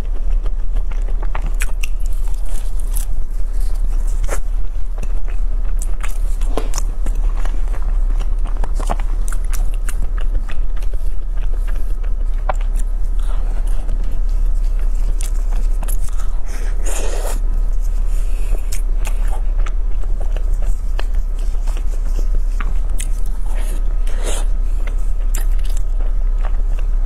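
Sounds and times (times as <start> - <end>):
chewing crisp pastry: 0.0 - 27.0
low hum: 0.0 - 27.0.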